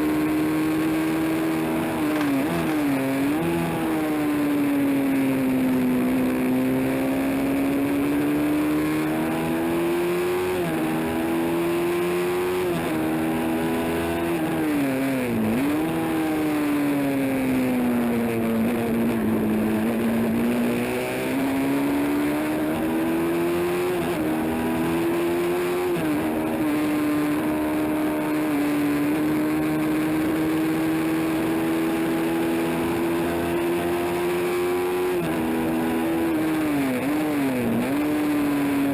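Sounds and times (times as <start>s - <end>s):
motorcycle engine revving hard: 0.0s - 38.9s.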